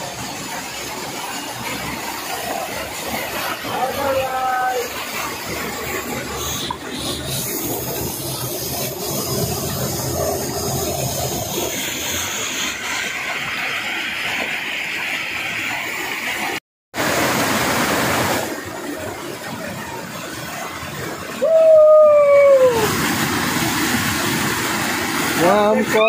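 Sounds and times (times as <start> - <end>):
stream water rushing over rocks: 0.0 - 26.0.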